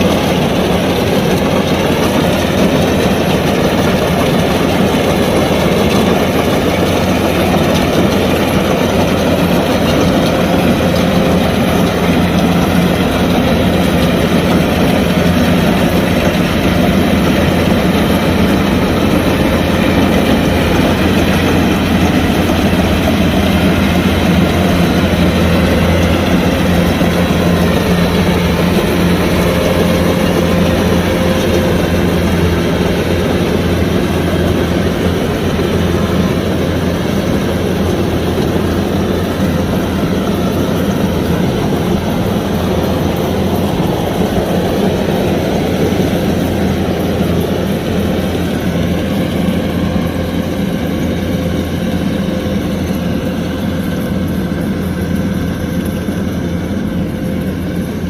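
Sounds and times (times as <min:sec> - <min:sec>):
combine harvester diesel drone: 0:00.0 - 0:58.0.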